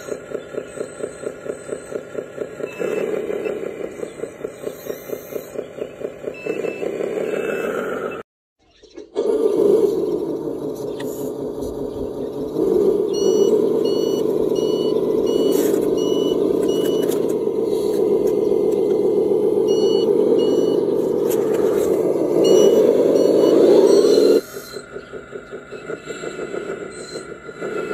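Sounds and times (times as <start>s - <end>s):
reversing beeper: 0.0s - 8.2s, 12.2s - 27.9s
toy vehicle motor running: 0.0s - 8.2s, 9.1s - 27.9s.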